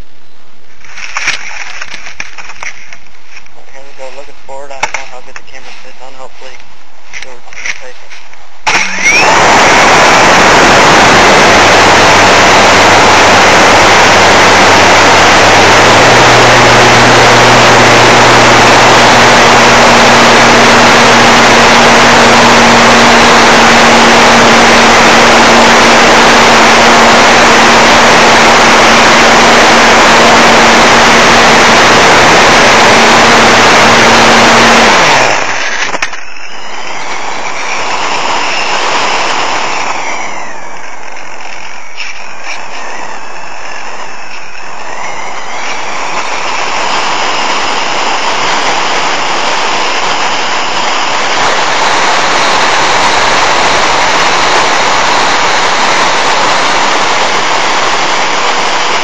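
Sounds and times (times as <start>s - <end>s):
electric motor and propeller hum: 0.9s - 59.0s.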